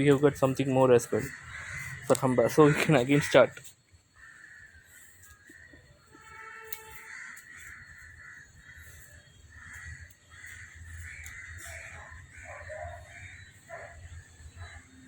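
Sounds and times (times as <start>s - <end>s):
birds harsh calls: 0.0s - 15.0s.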